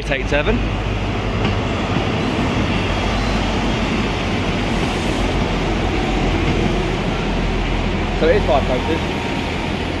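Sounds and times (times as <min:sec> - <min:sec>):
diesel train engines: 0:00.0 - 0:10.0
train wheels on rails: 0:00.0 - 0:10.0.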